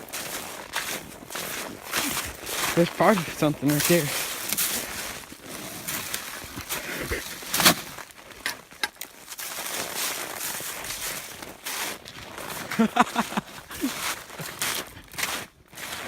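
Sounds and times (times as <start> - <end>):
footsteps through brush: 0.0 - 16.0.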